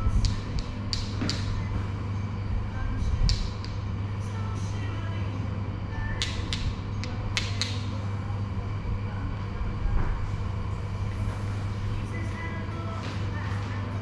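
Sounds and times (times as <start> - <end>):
low electric hum: 0.0 - 14.0.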